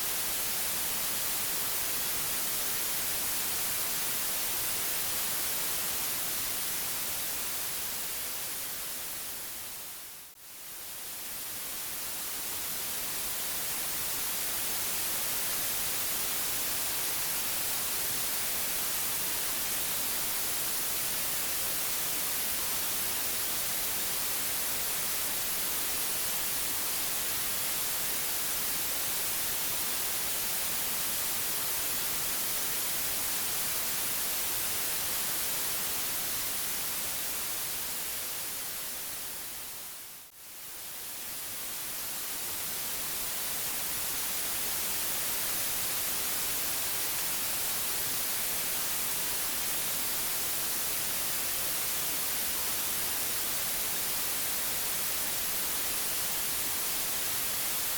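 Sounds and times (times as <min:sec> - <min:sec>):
steady white noise hiss: 0:00.0 - 0:57.9.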